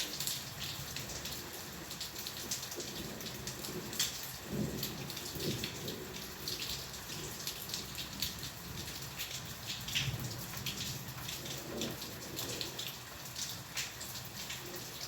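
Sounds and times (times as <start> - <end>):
hiss of downpour: 0.0 - 15.0
rain drops pattering: 0.0 - 15.0.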